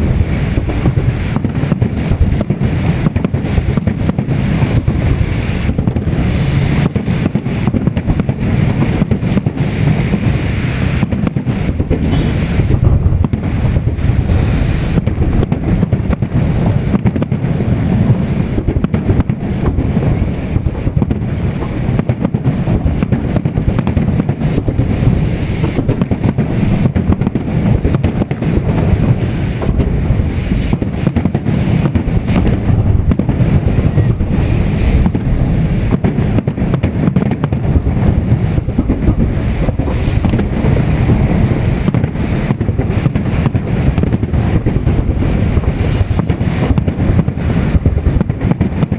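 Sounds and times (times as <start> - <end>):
fireworks crackling and thudding: 0.0 - 48.9
wind buffeting microphone: 0.0 - 48.9.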